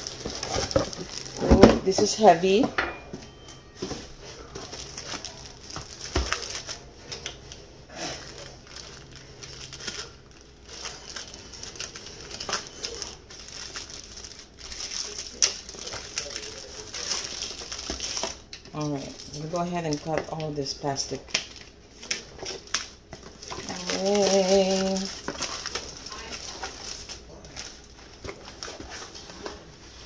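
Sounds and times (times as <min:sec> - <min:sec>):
plastic wrap crinkling: 0:00.0 - 0:02.6, 0:03.8 - 0:30.0.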